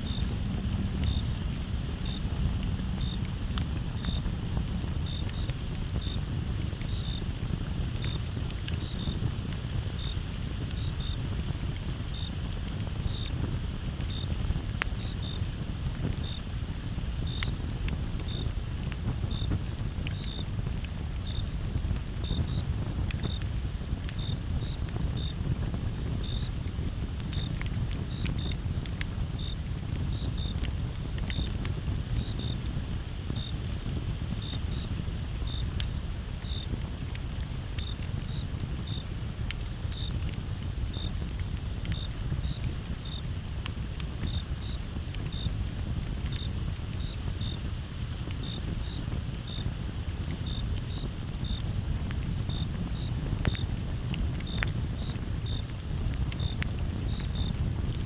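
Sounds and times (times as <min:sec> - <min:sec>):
low steady rumble: 0:00.0 - 0:58.0
campfire crackling and popping: 0:00.1 - 0:58.0
cricket chirping: 0:00.1 - 0:58.0.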